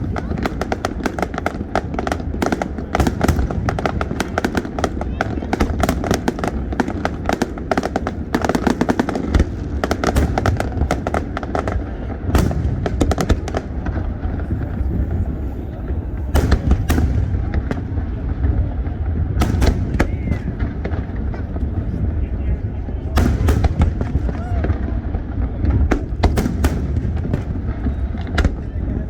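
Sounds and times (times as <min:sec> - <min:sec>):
continuous low rumble: 0:00.0 - 0:29.0
fireworks crackling: 0:00.0 - 0:29.0
fireworks loud bangs: 0:00.0 - 0:29.0.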